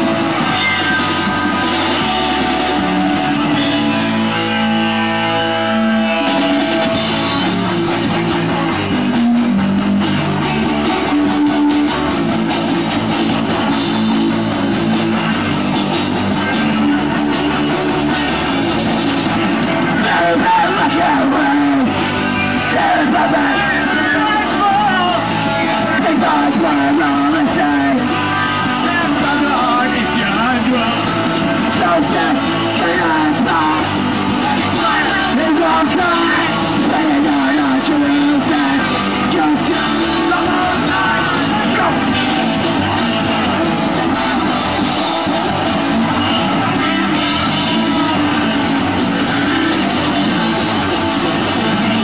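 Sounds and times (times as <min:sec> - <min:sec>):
singer shouting: 0:00.0 - 0:09.8, 0:19.6 - 0:52.0
distorted electric guitar: 0:00.0 - 0:52.0
drum kit: 0:00.0 - 0:52.0.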